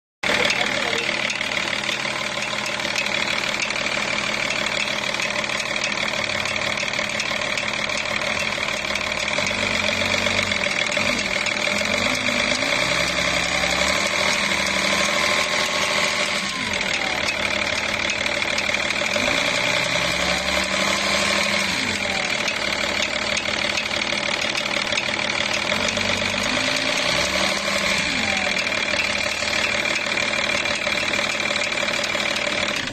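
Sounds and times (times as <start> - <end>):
drivetrain running with metallic sound: 0.2 - 32.9.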